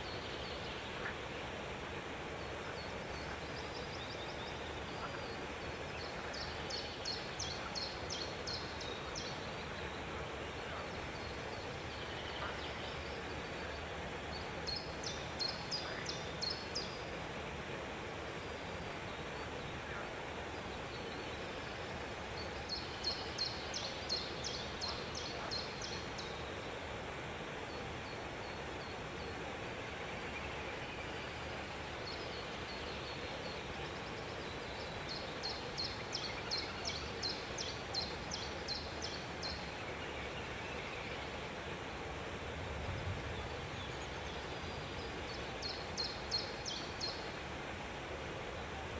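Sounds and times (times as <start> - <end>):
steady background noise: 0.0 - 48.9.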